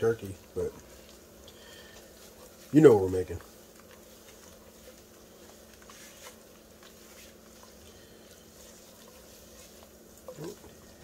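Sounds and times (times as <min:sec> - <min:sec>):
steady low hum: 0:00.0 - 0:11.0
spatula scraping a skillet: 0:00.8 - 0:11.0.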